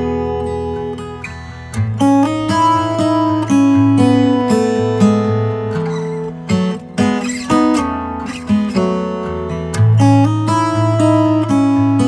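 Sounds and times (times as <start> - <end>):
acoustic guitar strumming and plucking: 0.0 - 12.0.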